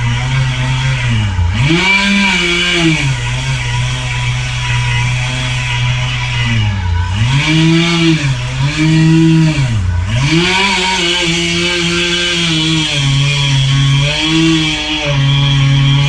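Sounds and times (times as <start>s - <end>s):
chainsaw cutting at high throttle: 0.0s - 16.0s.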